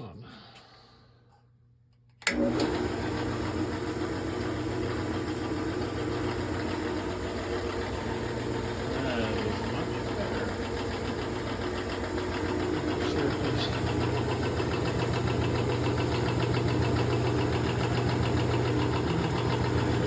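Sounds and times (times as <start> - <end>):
drill press motor humming: 2.3 - 20.0.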